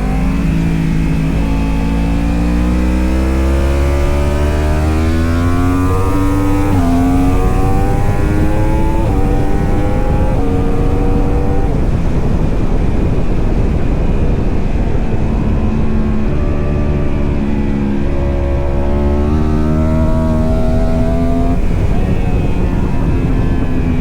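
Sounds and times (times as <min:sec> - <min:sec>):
motorbike engine accelerating: 0:00.0 - 0:24.0.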